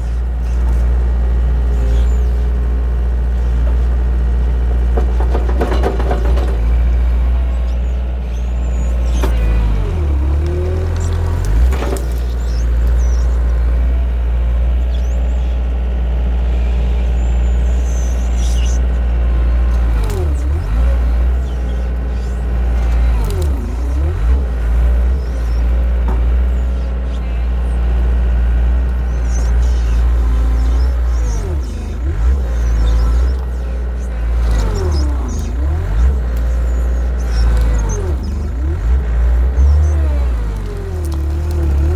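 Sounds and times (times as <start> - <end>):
large engine humming: 0.0 - 41.9.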